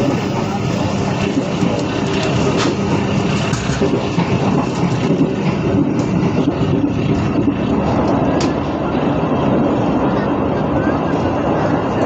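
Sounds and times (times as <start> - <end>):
train carriage rumbling: 0.0 - 12.0.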